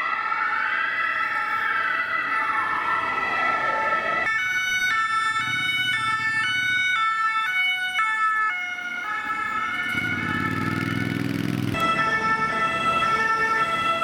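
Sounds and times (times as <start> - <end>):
two-tone siren: 0.0 - 14.0.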